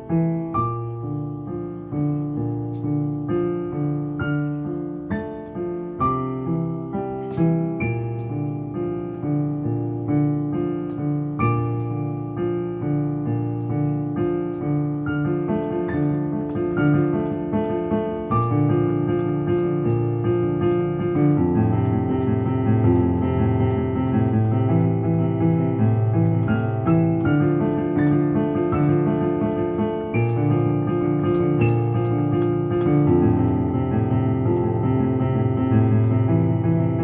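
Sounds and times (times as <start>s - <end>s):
digital piano playing: 0.0s - 37.0s.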